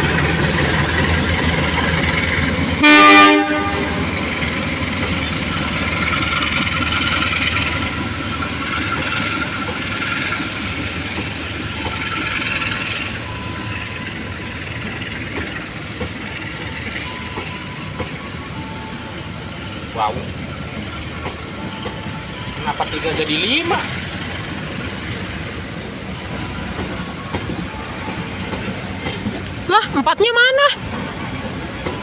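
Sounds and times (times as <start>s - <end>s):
train wheels rumbling and clattering: 0.0s - 32.0s.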